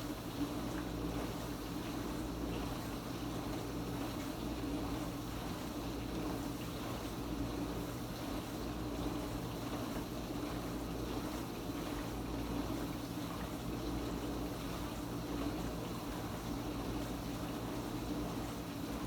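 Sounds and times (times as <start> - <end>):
dishwasher motor hum: 0.0 - 19.0.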